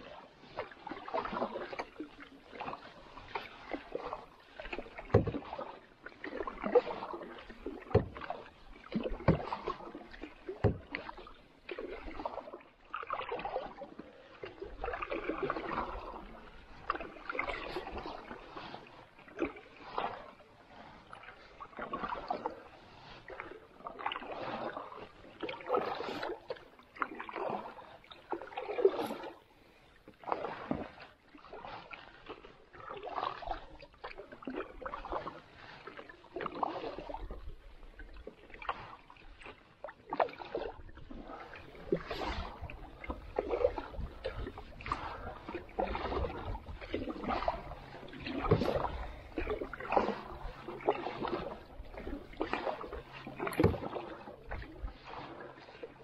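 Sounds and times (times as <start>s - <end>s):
paddle strokes through water: 0.0s - 56.0s.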